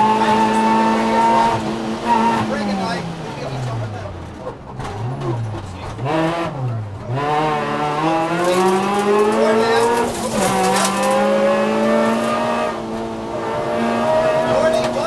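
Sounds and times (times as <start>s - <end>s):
car engine revving in cabin: 0.0s - 15.0s.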